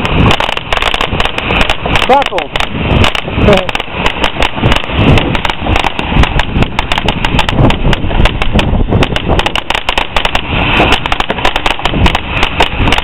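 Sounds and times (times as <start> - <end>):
crackling firework pops: 0.0 - 13.0.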